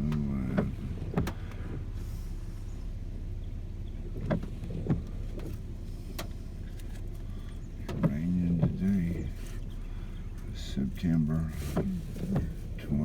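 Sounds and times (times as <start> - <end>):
car engine hum inside cabin: 0.0 - 13.0.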